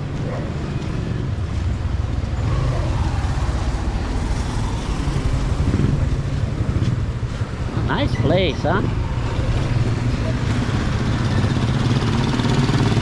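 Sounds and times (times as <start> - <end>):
motorcycle engine approaching: 0.0 - 7.8, 8.9 - 13.0.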